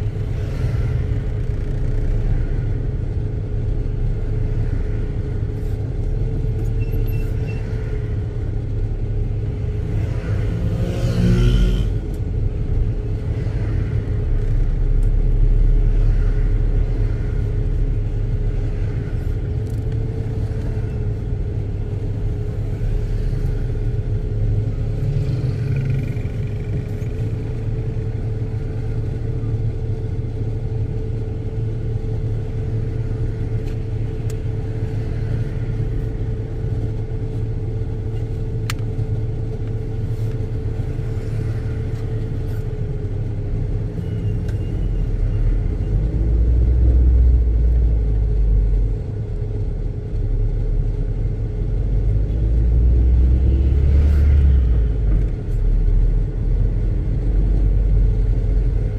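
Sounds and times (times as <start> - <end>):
car engine: 0.0 - 58.9
road rumble: 0.0 - 58.9.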